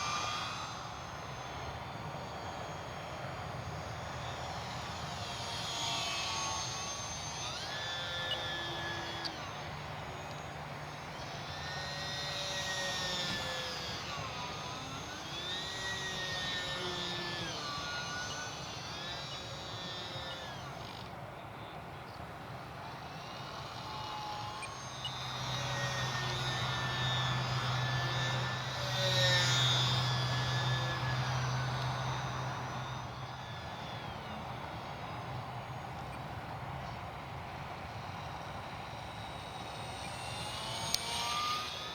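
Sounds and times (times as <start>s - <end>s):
model plane propeller whining: 0.0s - 41.9s.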